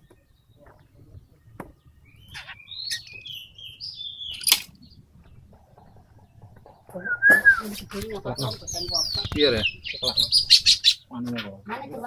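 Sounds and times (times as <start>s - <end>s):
bird chirping and warbling: 0.0s - 12.0s.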